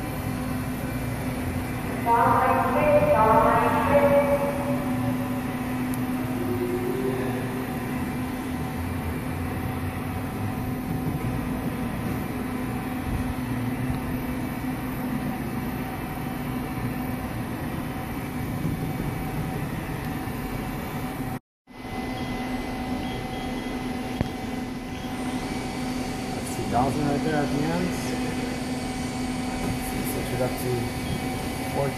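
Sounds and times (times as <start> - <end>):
machining center mechanical hum: 0.0 - 31.9.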